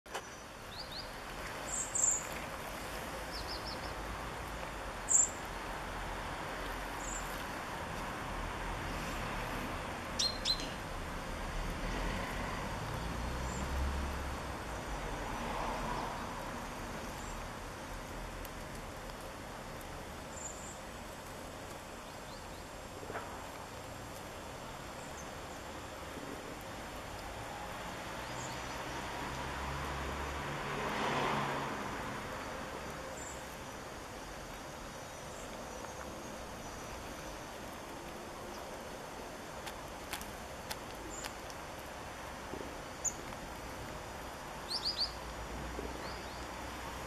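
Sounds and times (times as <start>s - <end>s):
outdoor background hiss: 0.1s - 47.0s.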